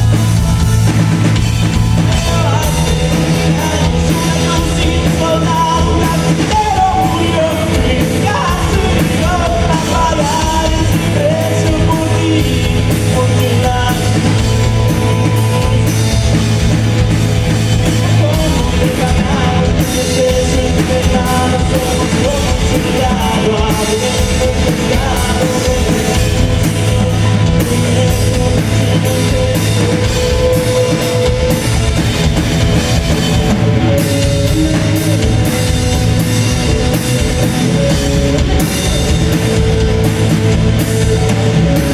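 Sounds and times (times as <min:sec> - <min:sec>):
loud rock music with drums: 0:00.0 - 0:41.9.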